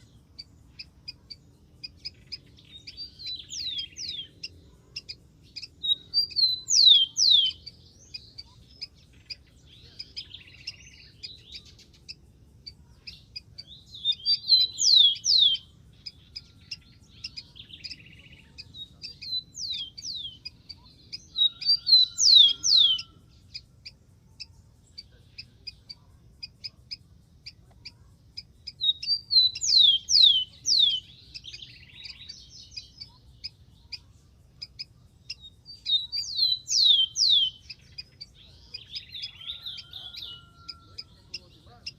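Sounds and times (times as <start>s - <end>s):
sparrow whistled song: 0.0s - 41.9s.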